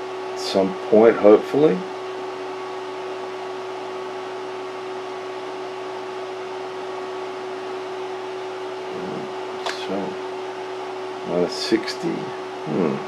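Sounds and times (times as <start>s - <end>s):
constant hum tone: 0.0s - 13.0s
cooling fans whirring: 0.0s - 13.0s.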